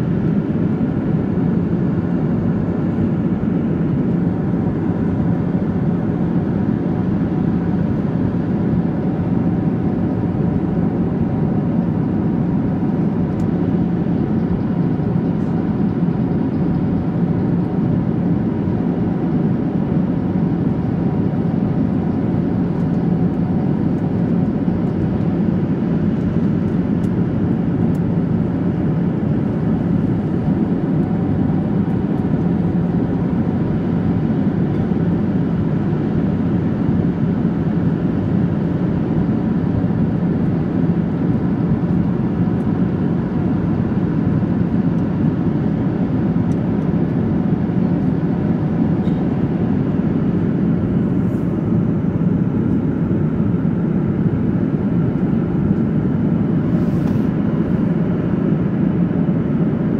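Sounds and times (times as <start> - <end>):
airplane cabin noise: 0.0 - 59.9.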